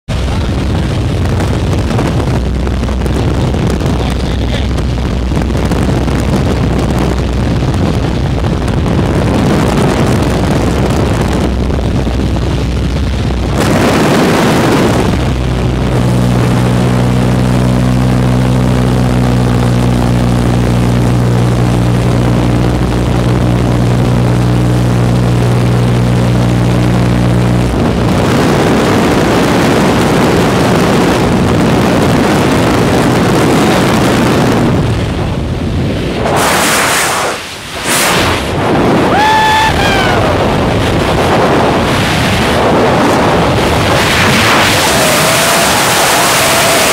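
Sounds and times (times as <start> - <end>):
light aircraft engine drone: 0.1 - 46.9
rushing wind on microphone: 0.1 - 46.9.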